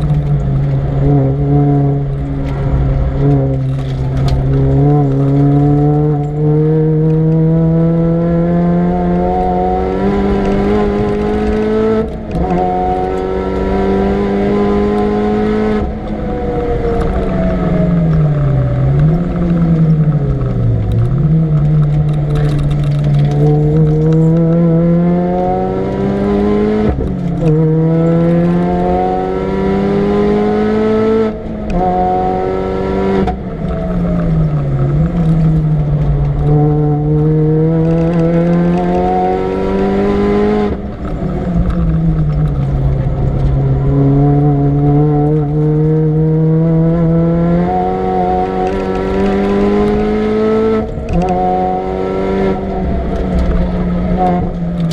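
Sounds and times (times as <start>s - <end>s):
supercharged car engine at full throttle: 0.0s - 54.9s.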